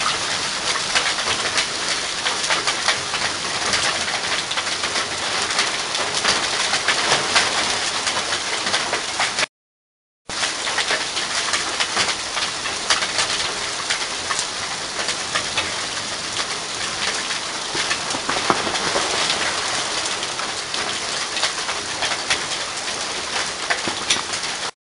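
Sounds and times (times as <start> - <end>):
hail and rain pelting ground: 0.0 - 9.5, 10.3 - 24.7.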